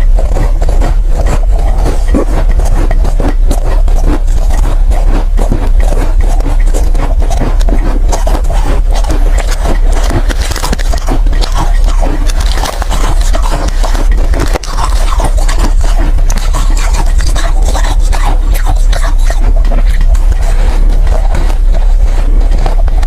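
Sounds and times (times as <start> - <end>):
chewing crunchy ice: 0.0 - 23.0
steady low hum: 0.0 - 23.0.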